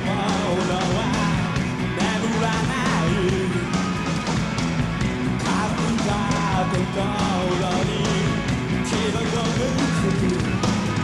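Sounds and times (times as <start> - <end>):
drums: 0.0 - 11.0
electric guitar: 0.0 - 11.0
rock band playing: 0.0 - 11.0.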